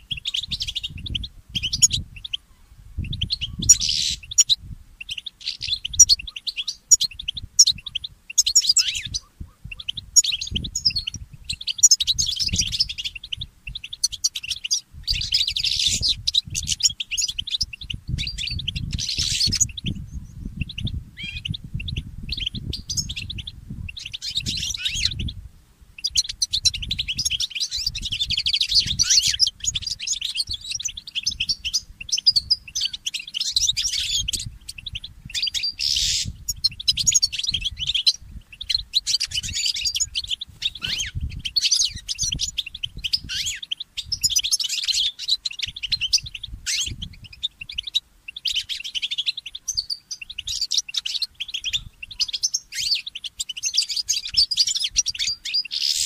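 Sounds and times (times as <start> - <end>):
finch singing twittering song: 0.0 - 56.0.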